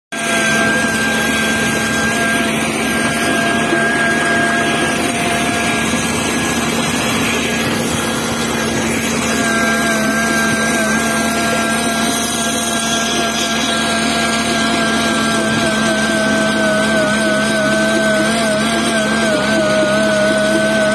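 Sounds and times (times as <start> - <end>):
tractor engine running: 0.1 - 20.9.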